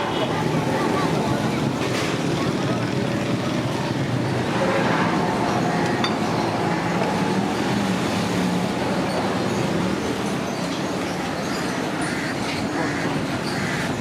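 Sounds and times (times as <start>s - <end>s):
street traffic din: 0.0s - 14.0s.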